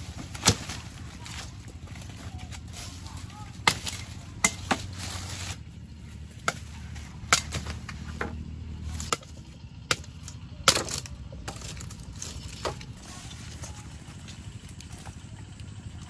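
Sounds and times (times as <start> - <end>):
blade chopping cane stalks: 0.0 - 15.1.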